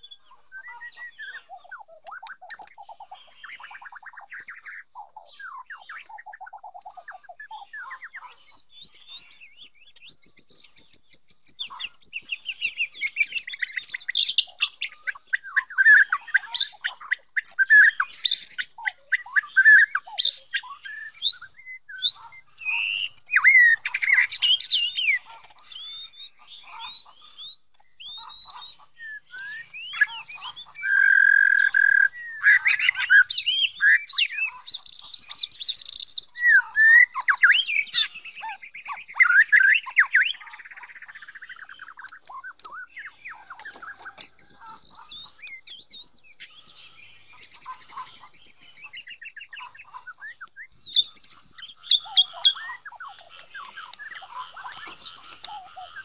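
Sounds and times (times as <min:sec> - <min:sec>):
bird chattering calls: 0:00.0 - 0:56.0
bird song whistles and trills: 0:00.0 - 0:56.0.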